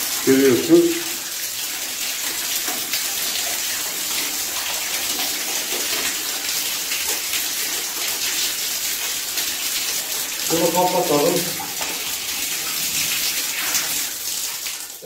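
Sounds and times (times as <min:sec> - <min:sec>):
water rushing through hose: 0:00.0 - 0:15.0
water splashing into bucket: 0:00.0 - 0:15.0.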